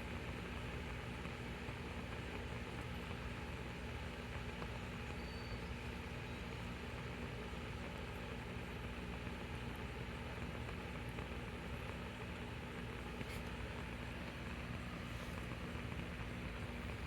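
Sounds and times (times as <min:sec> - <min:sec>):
alcohol stove burning: 0:00.0 - 0:17.0.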